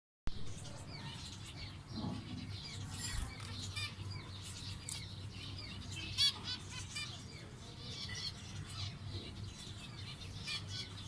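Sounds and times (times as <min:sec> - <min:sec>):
finches chirping: 0:00.4 - 0:11.0.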